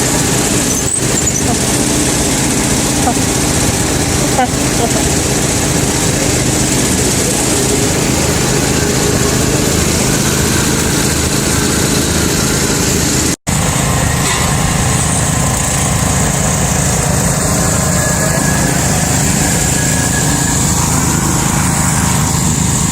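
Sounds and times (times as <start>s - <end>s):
garden tractor engine running: 0.0s - 22.9s.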